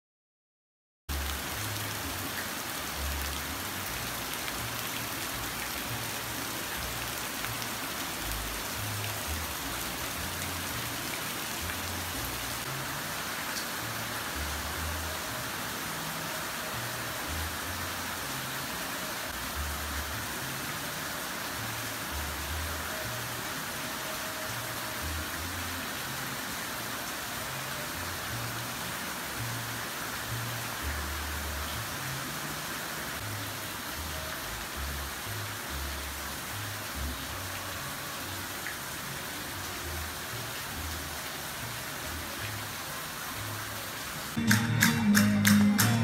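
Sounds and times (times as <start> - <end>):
rain on palm foliage: 1.1 - 46.0
rain splashing into puddles: 1.1 - 46.0.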